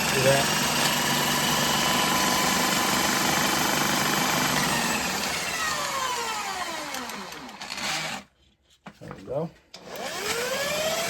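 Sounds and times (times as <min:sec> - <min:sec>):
drill motor whine: 0:00.0 - 0:08.2, 0:09.8 - 0:11.0.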